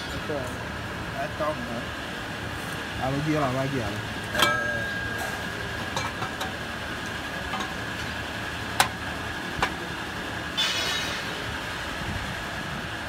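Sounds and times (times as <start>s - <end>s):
engine-like hum: 0.0s - 13.0s.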